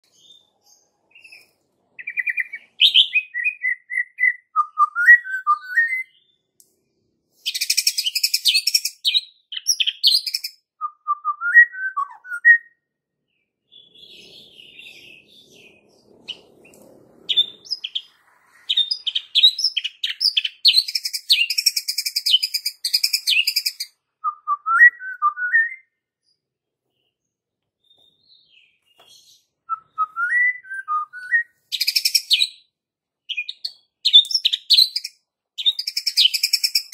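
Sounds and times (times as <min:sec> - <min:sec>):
bird whistled song phrases: 0:01.1 - 0:06.4, 0:07.4 - 0:12.8, 0:13.7 - 0:26.1, 0:27.8 - 0:32.7, 0:33.3 - 0:36.9.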